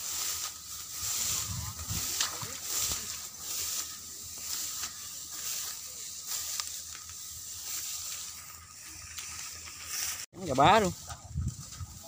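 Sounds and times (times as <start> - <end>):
footsteps through wet stubble: 0.0 - 12.0.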